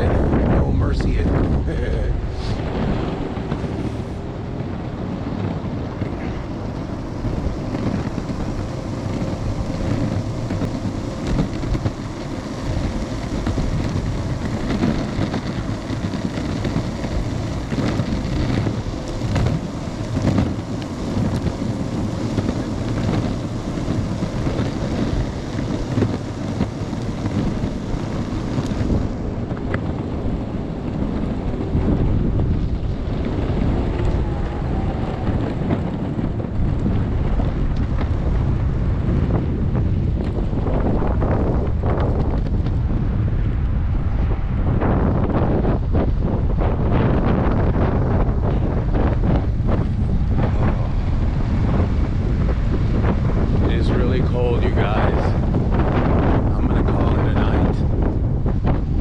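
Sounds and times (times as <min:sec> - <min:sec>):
faint steady whine: 0:00.0 - 0:59.0
skateboard wheels rolling on pavement: 0:00.0 - 0:59.0
wind buffeting microphone: 0:00.0 - 0:59.0.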